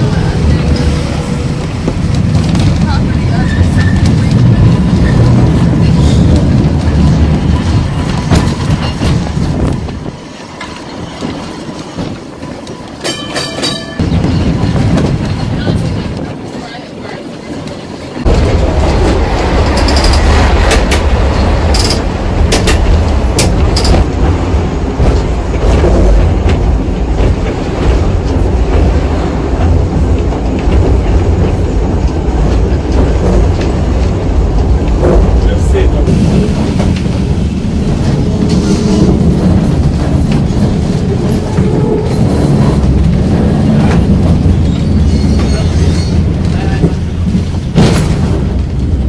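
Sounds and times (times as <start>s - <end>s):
tram rumbling along track: 0.0s - 49.0s
wheel clacks over rail joints: 0.0s - 49.0s.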